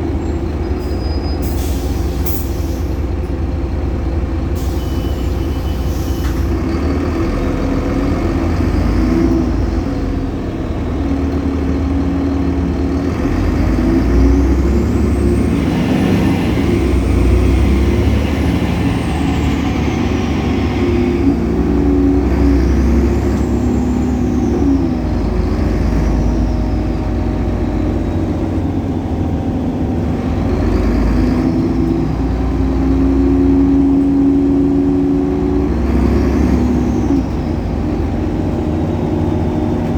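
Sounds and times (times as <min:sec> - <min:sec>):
bus diesel engine pulling away: 0:00.0 - 0:39.9.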